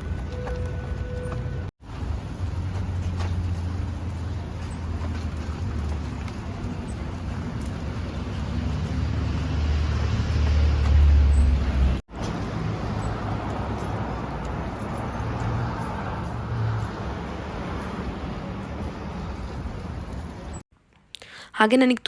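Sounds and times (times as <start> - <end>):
car engine and tyre rumble: 0.0 - 20.6.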